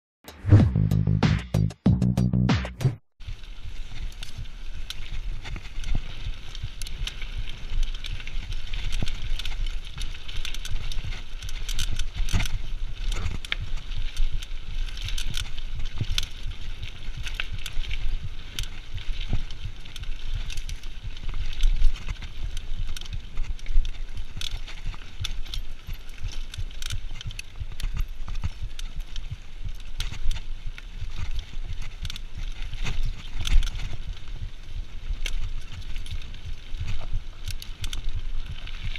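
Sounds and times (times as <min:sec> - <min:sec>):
bike clicks and rattles: 0:03.2 - 0:38.9
bike tyres on gravel: 0:03.2 - 0:38.9.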